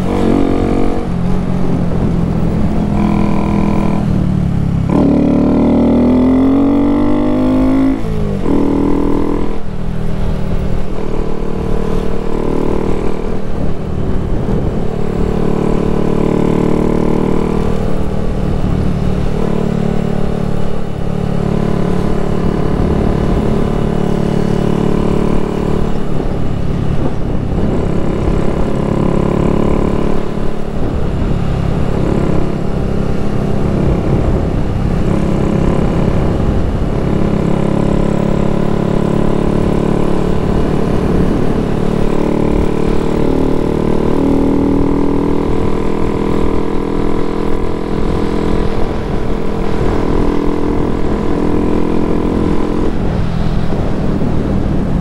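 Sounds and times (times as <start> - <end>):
motorcycle engine running: 0.0 - 55.0
wind rumbling on microphone: 0.0 - 55.0.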